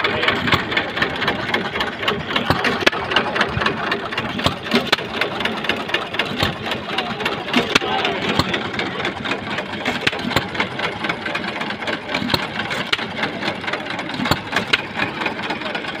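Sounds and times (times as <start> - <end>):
engine mechanical clatter: 0.0 - 16.0
sharp exhaust pops: 0.1 - 15.8.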